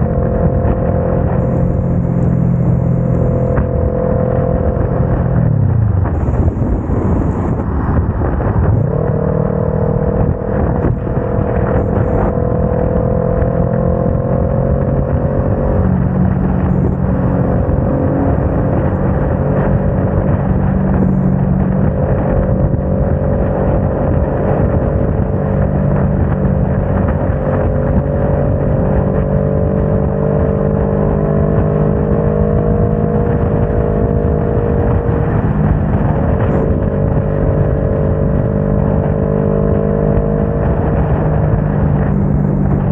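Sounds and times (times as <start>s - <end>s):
motorcycle engine accelerating: 0.0s - 42.9s
wind rush: 0.0s - 42.9s.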